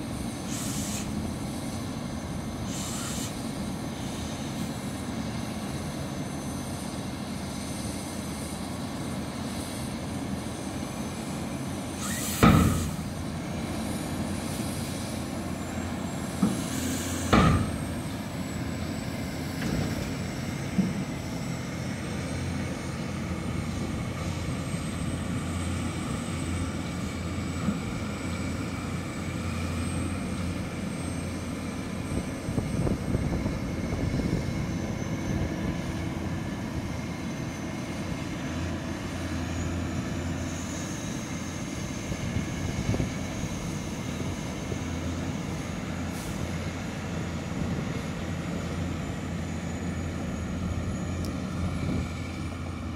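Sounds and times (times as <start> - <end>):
tractor diesel engines under load: 0.0 - 52.9.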